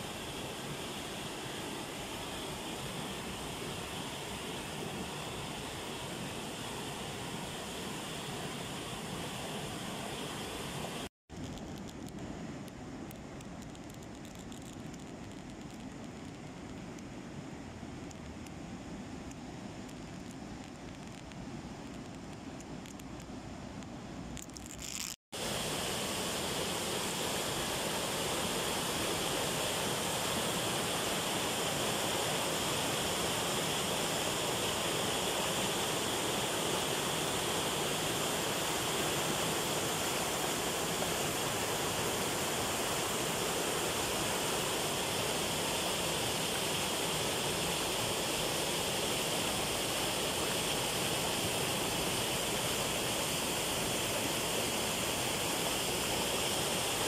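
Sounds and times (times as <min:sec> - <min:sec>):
water rushing over a weir: 0:00.0 - 0:18.6, 0:24.3 - 0:57.0.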